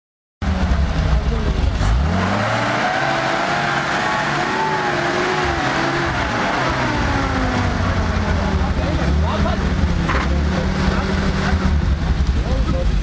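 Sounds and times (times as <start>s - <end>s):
car engine revving under load: 0.4s - 13.0s.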